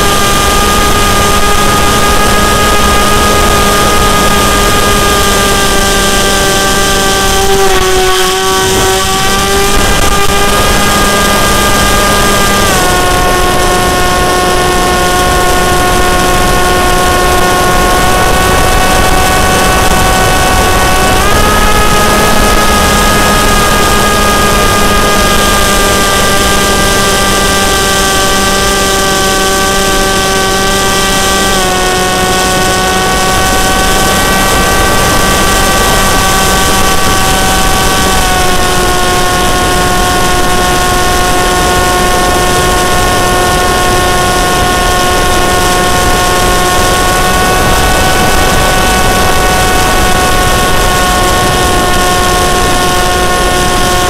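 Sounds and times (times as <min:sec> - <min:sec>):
model plane motor whine: 0:00.0 - 0:54.0.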